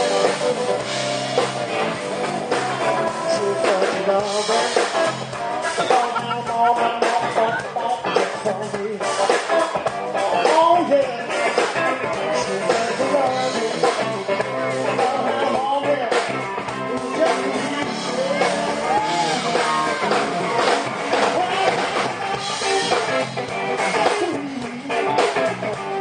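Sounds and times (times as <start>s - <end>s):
bass guitar: 0.0s - 26.0s
electric guitar: 0.0s - 26.0s
man singing: 2.5s - 26.0s.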